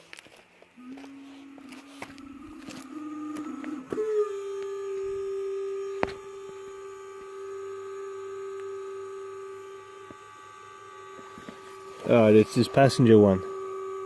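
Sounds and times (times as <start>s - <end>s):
small cooling fan whining: 0.0s - 14.0s.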